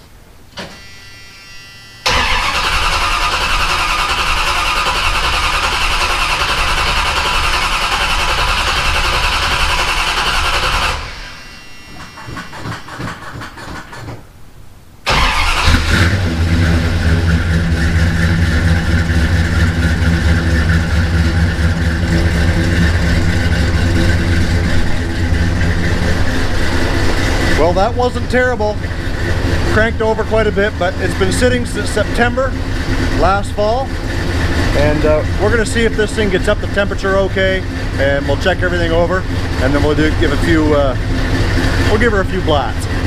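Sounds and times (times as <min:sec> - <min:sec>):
car engine cranking: 0:02.0 - 0:11.4, 0:15.1 - 0:43.0
car engine running: 0:02.0 - 0:13.4, 0:15.1 - 0:43.0.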